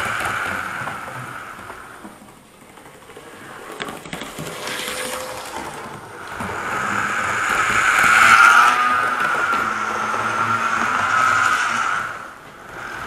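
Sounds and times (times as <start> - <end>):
model train motor whining: 0.0 - 13.0
model train wheels rattling: 0.0 - 13.0.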